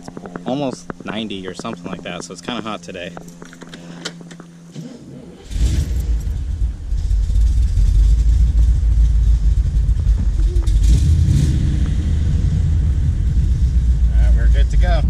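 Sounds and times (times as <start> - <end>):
car engine starting and idling: 2.8 - 15.0.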